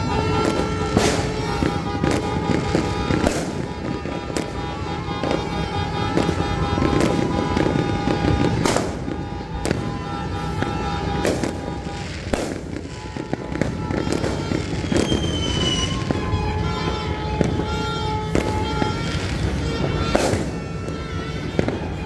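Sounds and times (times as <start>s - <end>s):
falling firework whistle: 0.0s - 22.0s
firecracker cracks: 0.0s - 22.0s
fireworks bangs: 0.0s - 22.0s.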